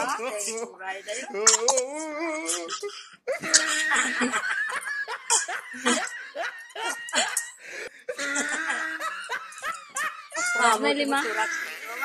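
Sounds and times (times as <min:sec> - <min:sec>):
people laughing and snickering: 0:02.1 - 0:12.0.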